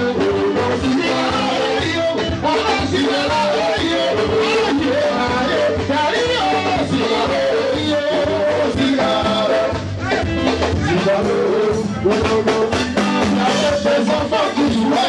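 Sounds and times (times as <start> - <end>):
live dance music beat: 0.0 - 15.0
men singing into microphones: 0.0 - 15.0.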